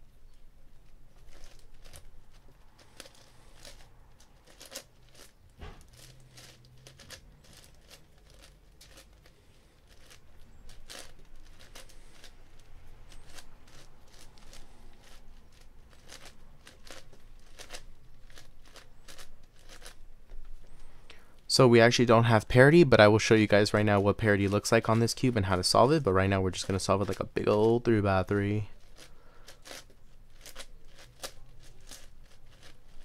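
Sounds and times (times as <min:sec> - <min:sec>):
puzzle cube clicking and scraping: 0:01.1 - 0:20.9, 0:23.3 - 0:33.0.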